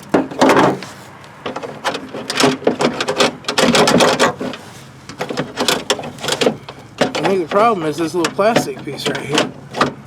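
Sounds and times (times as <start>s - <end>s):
loud knock and scrape: 0.0s - 10.0s
parts clicking and knocking: 0.0s - 10.0s.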